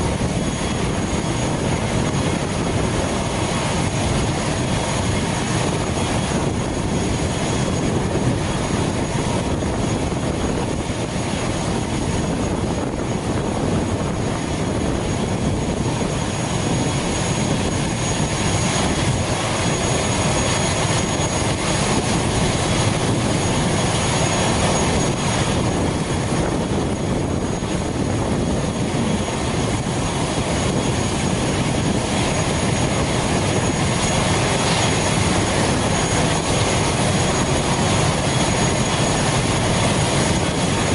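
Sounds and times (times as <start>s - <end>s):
high turbine whistle: 0.0s - 40.9s
turboprop engine rumbling: 0.0s - 40.9s.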